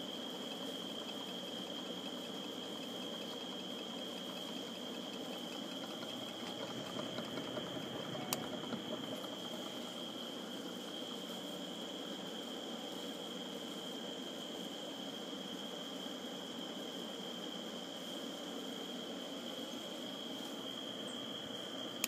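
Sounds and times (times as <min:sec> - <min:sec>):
ceiling fan whirring: 0:00.0 - 0:22.0.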